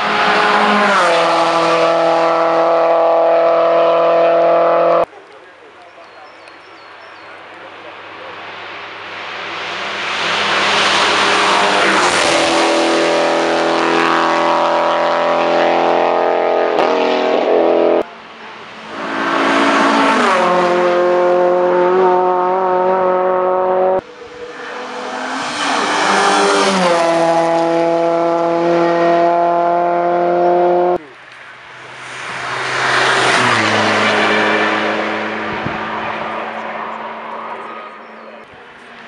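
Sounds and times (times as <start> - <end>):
race cars passing at speed: 0.0 - 5.2, 6.3 - 39.0.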